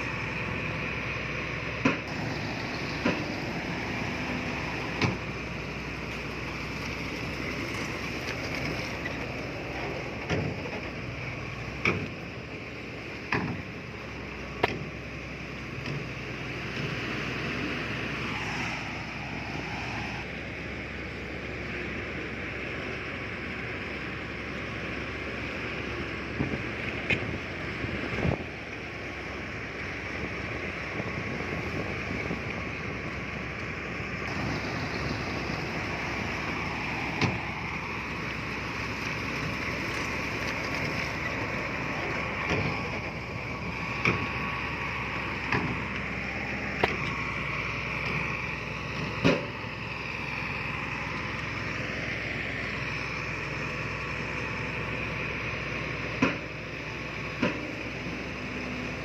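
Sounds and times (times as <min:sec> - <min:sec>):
heavy machinery running: 0:00.0 - 0:59.0.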